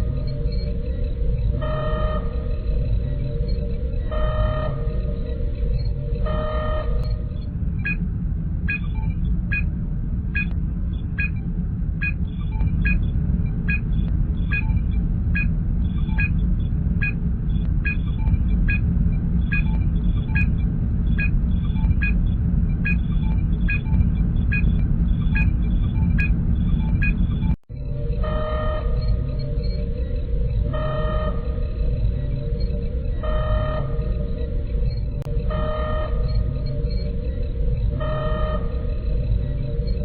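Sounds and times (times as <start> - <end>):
low engine hum: 0.0 - 40.0.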